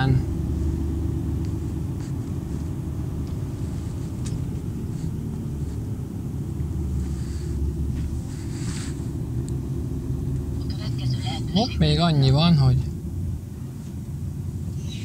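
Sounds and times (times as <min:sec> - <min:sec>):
truck diesel engine drone: 0:00.0 - 0:15.0.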